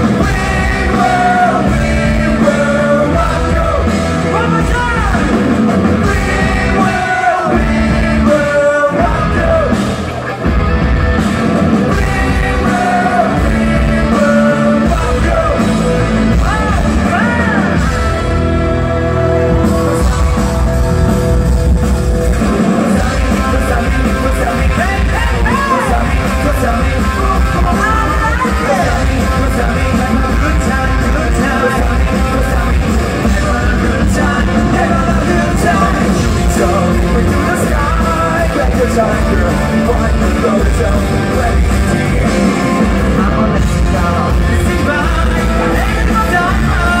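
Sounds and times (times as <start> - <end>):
man singing: 0.0 - 10.0, 11.8 - 20.8, 22.4 - 47.0
rock band playing live: 0.0 - 47.0.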